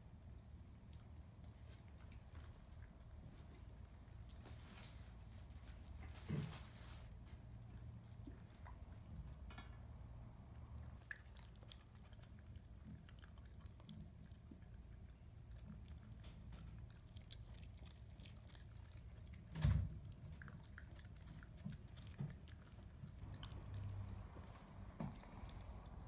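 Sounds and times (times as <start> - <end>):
puppy chewing clicks: 0.0 - 4.6, 7.3 - 26.0.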